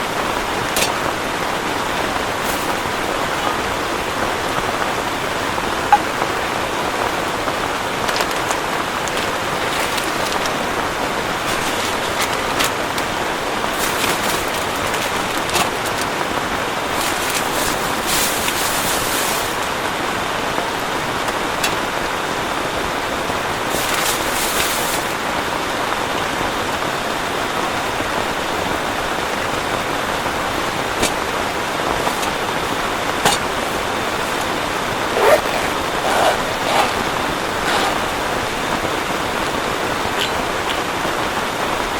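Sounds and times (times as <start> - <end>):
heavy rain hiss: 0.0 - 41.9.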